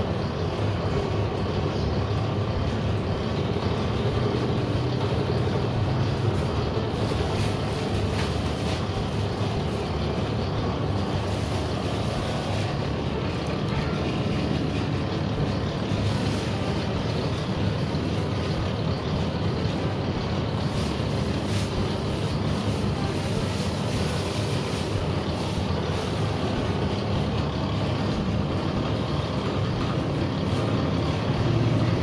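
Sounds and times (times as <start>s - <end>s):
noodle machine droning: 0.0s - 32.0s.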